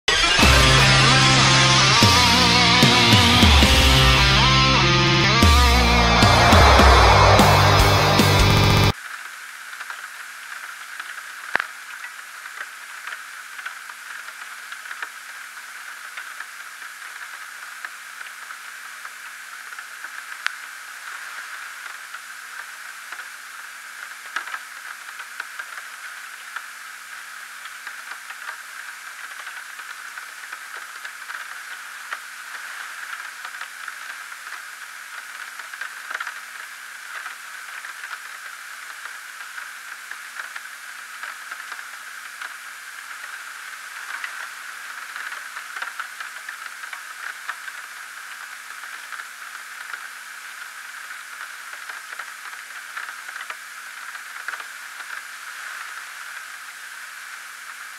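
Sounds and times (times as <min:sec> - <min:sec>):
analog static hiss: 0:00.1 - 0:57.9
crackles: 0:04.7 - 0:57.9.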